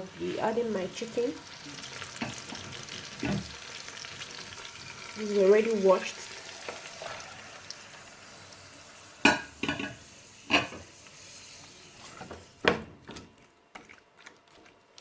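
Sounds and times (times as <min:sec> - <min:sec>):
meat sizzling in oil: 0:00.0 - 0:12.7.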